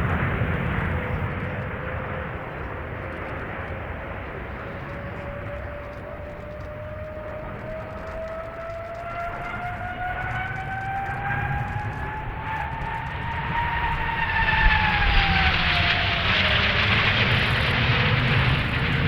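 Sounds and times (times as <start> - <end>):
jet engine whine: 0.0 - 19.0.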